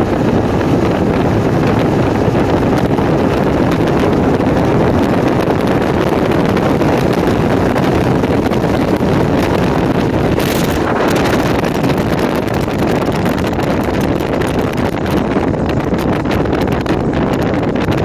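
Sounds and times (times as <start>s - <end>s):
outboard motor running: 0.0s - 18.0s
water rushing off hull: 0.0s - 18.0s
wind buffeting microphone: 0.0s - 18.0s.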